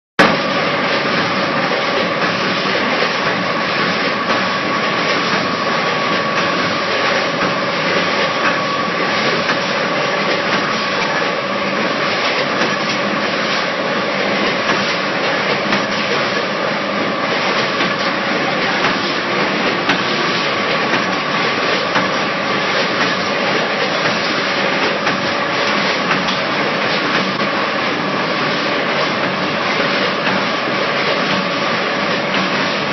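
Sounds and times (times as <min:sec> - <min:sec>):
machine whine: 0:00.2 - 0:32.9.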